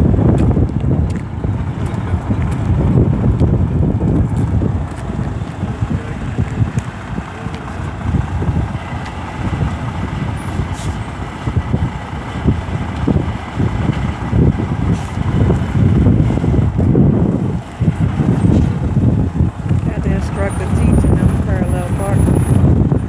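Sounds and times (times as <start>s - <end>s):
diesel truck engine running slowly: 0.0s - 23.0s
wind on microphone: 0.0s - 23.0s.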